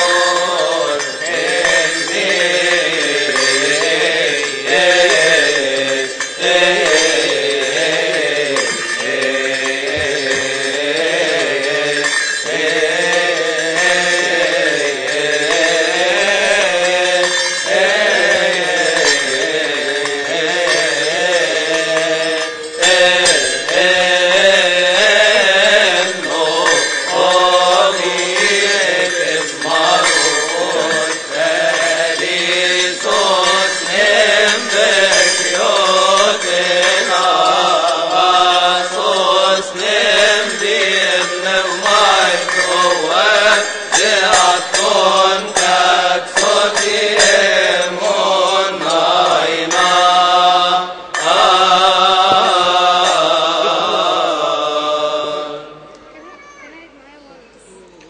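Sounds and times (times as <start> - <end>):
men's choir chanting a hymn: 0.0 - 55.9.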